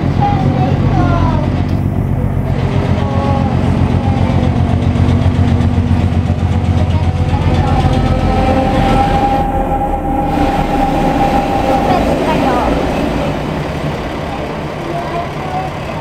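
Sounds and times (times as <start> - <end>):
diesel locomotive engine rumble: 0.0 - 16.0
steady high whine: 0.0 - 16.0.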